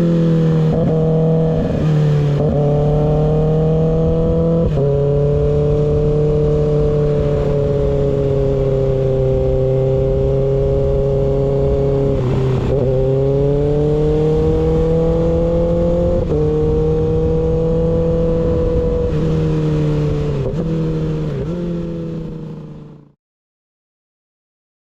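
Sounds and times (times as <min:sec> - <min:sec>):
low wind rumble: 0:00.0 - 0:22.8
motorcycle engine riding along: 0:00.0 - 0:23.2.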